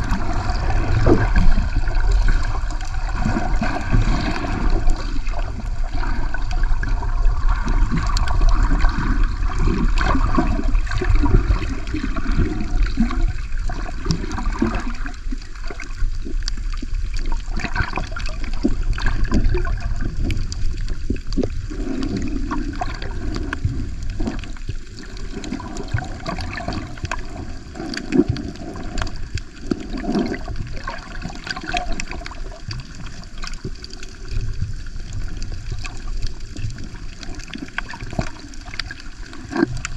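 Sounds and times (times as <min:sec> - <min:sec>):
water sloshing underwater: 0:00.0 - 0:39.9.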